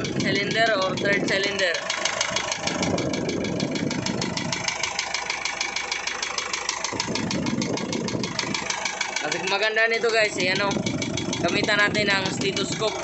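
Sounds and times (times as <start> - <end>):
diesel engine idling with knock: 0.0 - 13.0.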